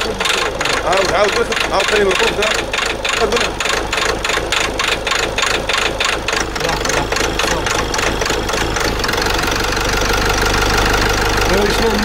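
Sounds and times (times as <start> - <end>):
diesel engine idling roughly: 0.0 - 12.0.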